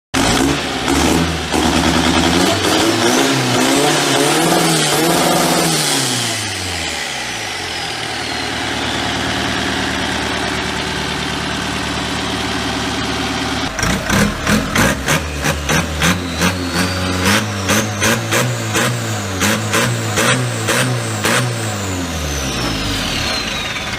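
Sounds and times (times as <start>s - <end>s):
speedboat engine revving: 0.2s - 10.5s, 13.6s - 23.8s.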